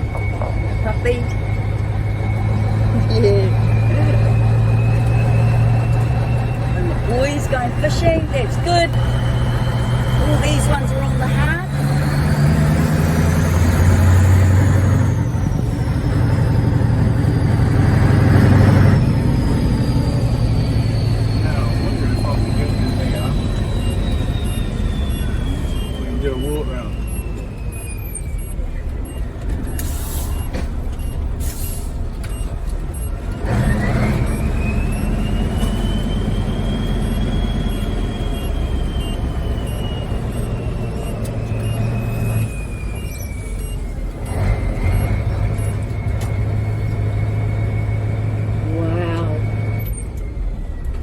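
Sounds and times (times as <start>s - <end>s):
rising whistle: 0.0s - 51.0s
truck engine drone: 0.0s - 51.0s.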